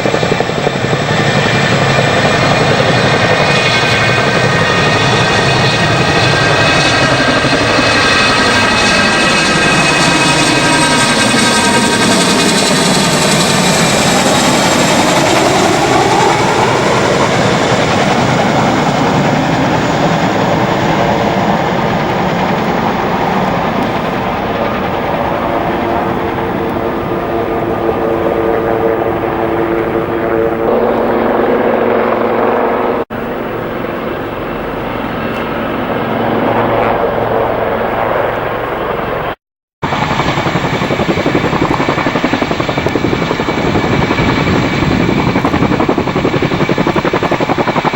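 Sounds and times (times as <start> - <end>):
helicopter rotors running: 0.0 - 47.9.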